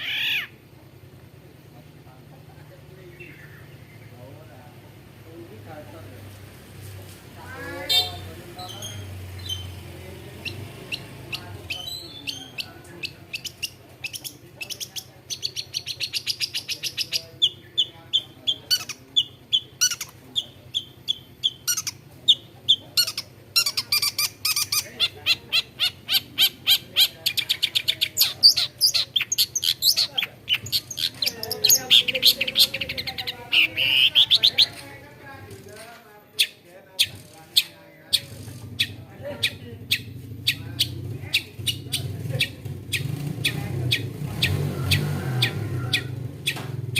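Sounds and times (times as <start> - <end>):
shrike singing: 7.4 - 35.3, 36.4 - 46.6.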